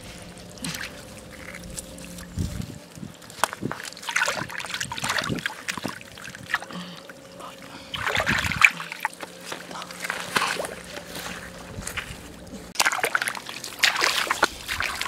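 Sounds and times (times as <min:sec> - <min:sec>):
hands splashing in muddy water: 0:00.0 - 0:06.7, 0:07.9 - 0:15.0.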